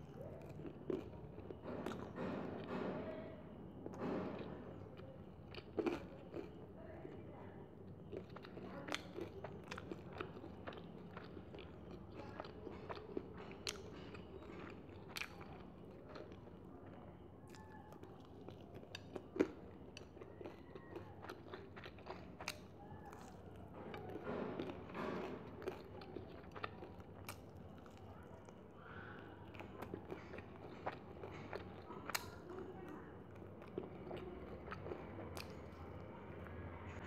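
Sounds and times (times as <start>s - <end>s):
chewing and crunching fried chicken: 0.0s - 3.0s, 3.6s - 37.0s.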